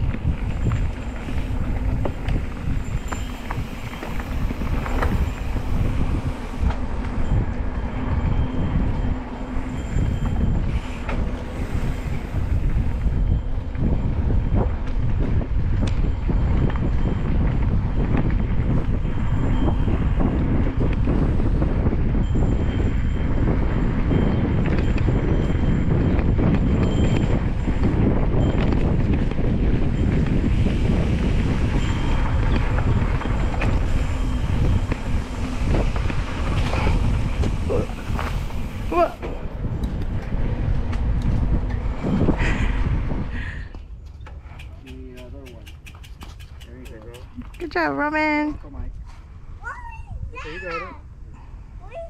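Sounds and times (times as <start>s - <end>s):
bike tyres rolling on gravel: 0.0s - 47.4s
bike rattling over bumps: 0.0s - 48.5s
wind buffeting microphone: 0.0s - 52.0s.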